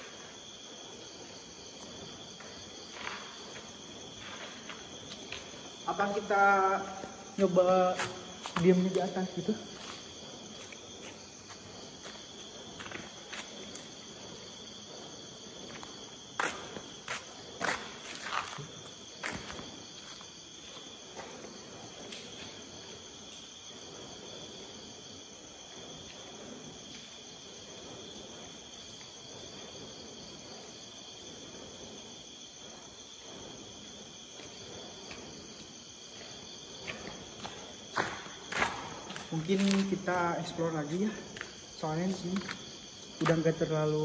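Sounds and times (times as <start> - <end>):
crickets and night insects chirping: 0.0 - 44.0.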